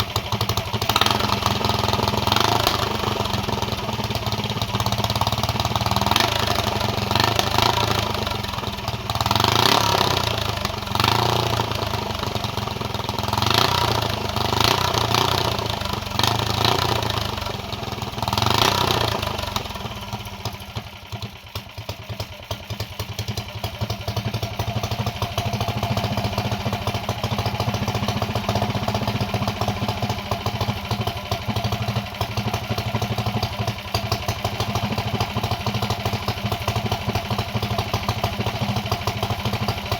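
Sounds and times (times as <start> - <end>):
engine revving and idling: 0.0 - 39.9.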